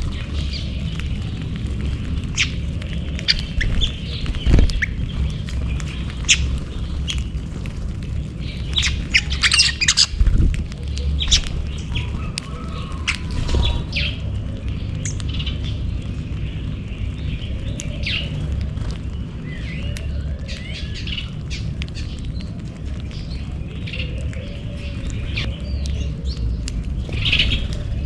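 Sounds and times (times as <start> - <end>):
small birds chirping and squawking: 0.0 - 28.0
steady low rumble: 0.0 - 28.0.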